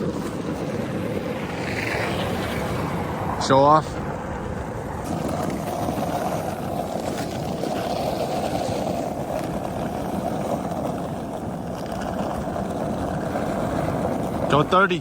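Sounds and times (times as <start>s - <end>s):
skateboard wheels rolling on icy road: 0.0s - 15.0s.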